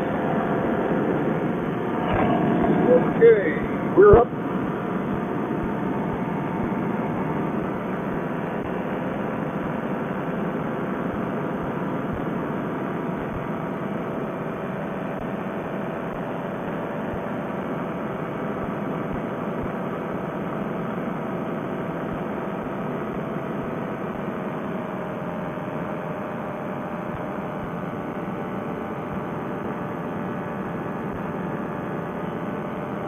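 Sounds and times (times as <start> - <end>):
paramotor engine and propeller drone: 0.0 - 33.0.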